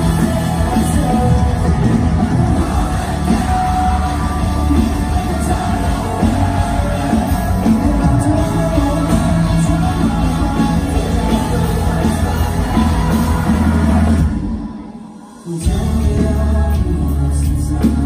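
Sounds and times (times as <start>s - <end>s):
person singing: 0.0s - 18.0s
rock band playing live: 0.0s - 18.0s.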